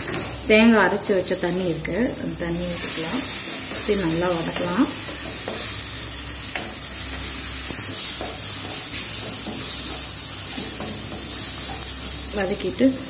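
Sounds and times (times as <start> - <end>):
masala sizzling in a pot: 0.0 - 13.0.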